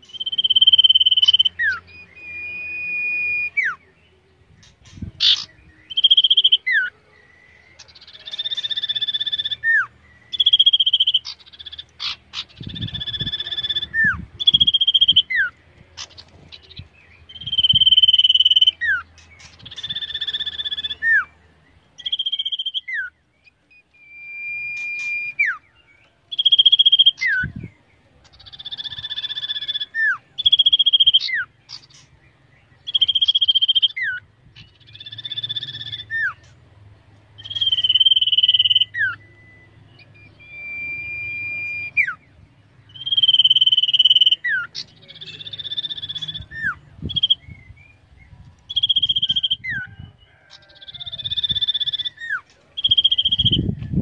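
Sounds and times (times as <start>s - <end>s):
bird whistling calls: 0.0s - 3.8s, 4.8s - 6.9s, 7.8s - 21.4s, 22.0s - 25.7s, 26.3s - 27.6s, 32.8s - 36.5s, 37.4s - 54.0s.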